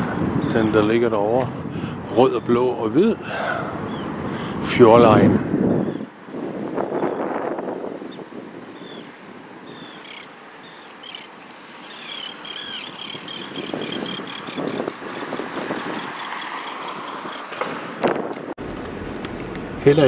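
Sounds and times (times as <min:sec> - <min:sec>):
birds calling: 0:00.0 - 0:18.3
distant harbour noise: 0:00.0 - 0:20.0
wind: 0:00.0 - 0:20.0.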